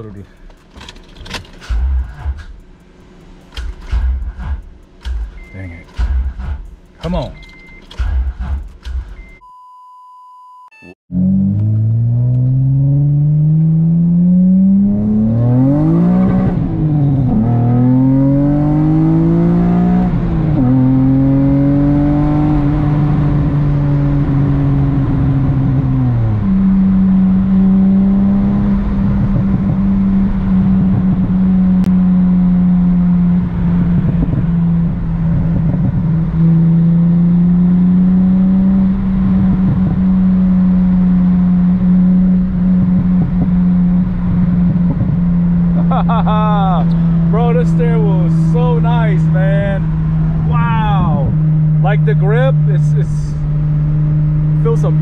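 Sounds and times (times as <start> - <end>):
car engine accelerating: 0.0 - 9.4, 11.1 - 55.0.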